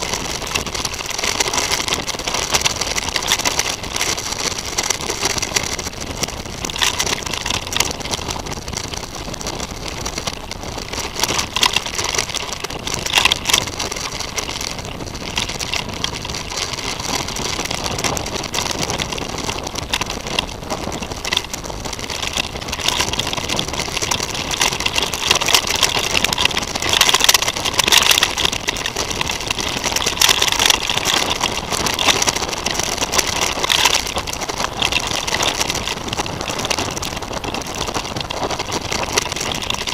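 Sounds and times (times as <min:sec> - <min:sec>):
bike knocking and rattling: 0:00.0 - 0:39.9
tyre and wind rumble: 0:00.0 - 0:39.9.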